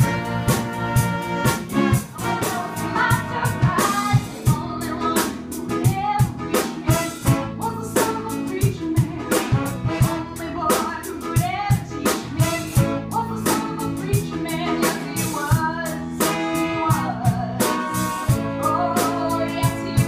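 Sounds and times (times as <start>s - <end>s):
drums beating: 0.0s - 20.0s
jazz band playing: 0.0s - 20.0s
person singing: 2.1s - 20.0s.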